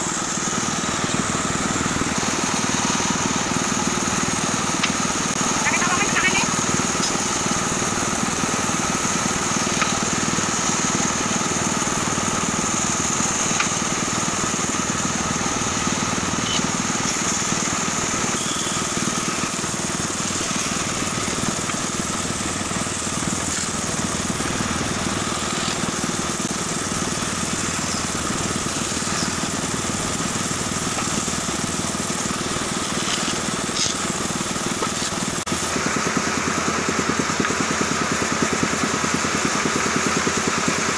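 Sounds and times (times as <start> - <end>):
band saw whining: 0.0 - 40.9.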